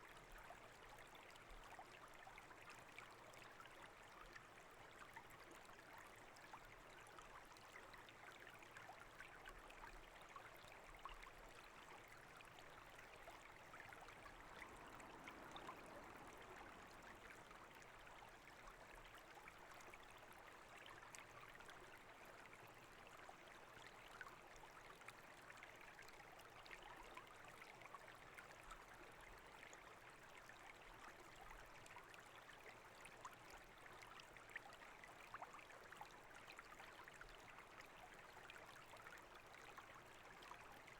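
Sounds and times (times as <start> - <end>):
brook babbling over stones: 0.1 - 40.9.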